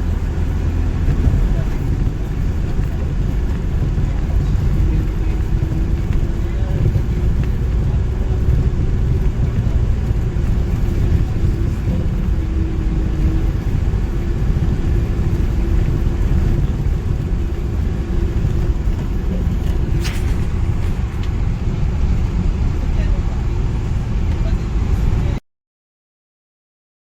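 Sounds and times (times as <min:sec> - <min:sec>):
motor vehicle rumble: 0:00.0 - 0:25.4.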